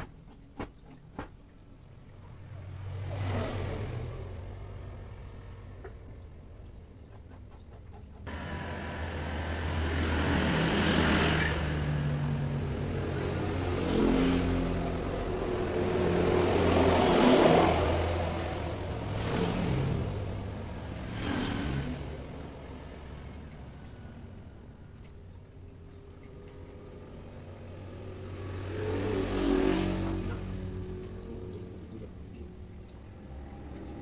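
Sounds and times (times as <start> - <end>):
vehicles passing on road: 0.0 - 34.0.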